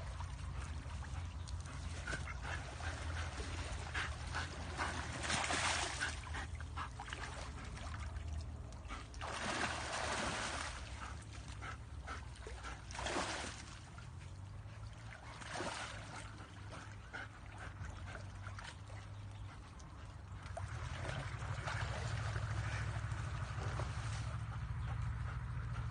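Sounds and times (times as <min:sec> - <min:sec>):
water splashing: 0:00.0 - 0:19.0, 0:19.8 - 0:25.9.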